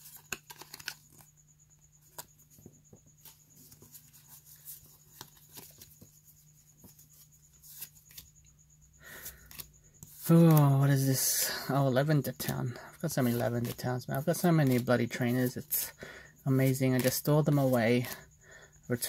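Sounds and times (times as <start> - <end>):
trading cards rustling: 0.0 - 1.3, 2.0 - 8.3, 9.1 - 18.3.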